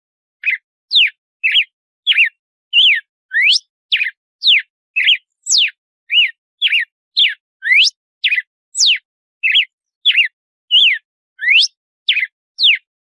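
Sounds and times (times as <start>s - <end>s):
bird whistling song: 0.4s - 12.9s.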